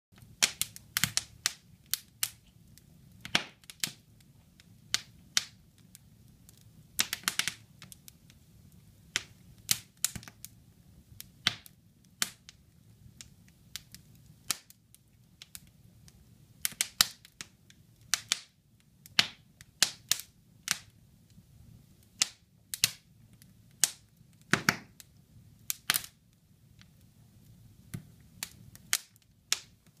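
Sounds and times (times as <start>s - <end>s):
fire crackling and popping: 0.2s - 30.0s.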